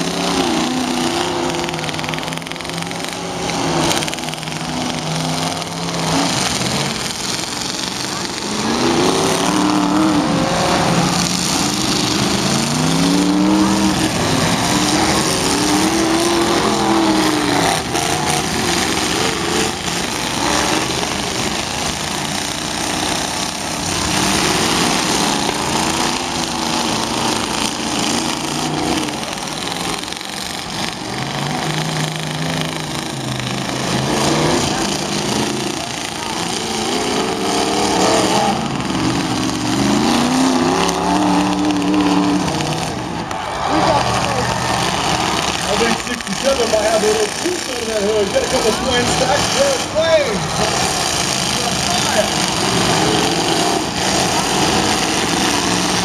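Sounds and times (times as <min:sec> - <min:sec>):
car engines revving: 0:00.0 - 0:56.0
cars crashing: 0:00.0 - 0:56.0.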